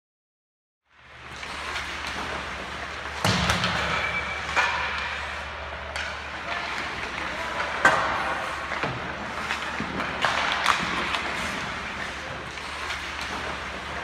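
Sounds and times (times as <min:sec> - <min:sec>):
skates on ice: 0:01.0 - 0:14.0
hockey sticks knocking pucks: 0:01.2 - 0:14.0.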